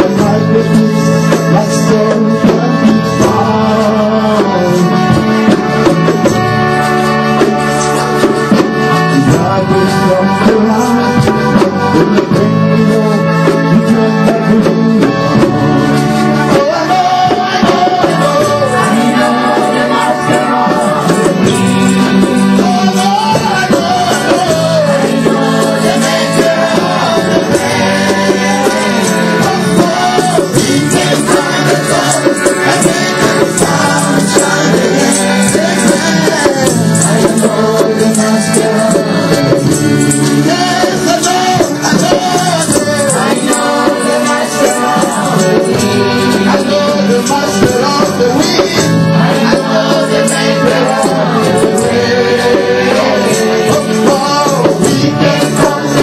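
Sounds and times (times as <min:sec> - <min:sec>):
backing band playing: 0:00.0 - 0:56.0
person singing: 0:00.0 - 0:56.0.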